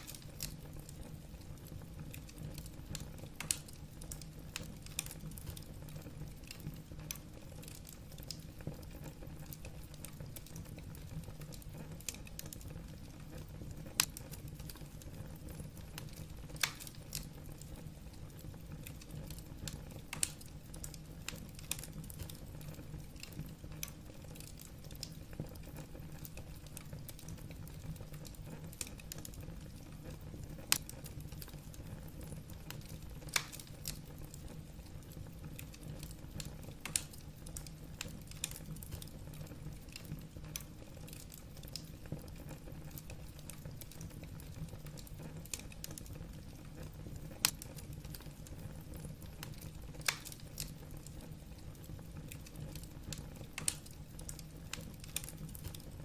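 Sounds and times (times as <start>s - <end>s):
burning logs crackling: 0.0s - 56.0s
low rumble of flames: 0.0s - 56.0s.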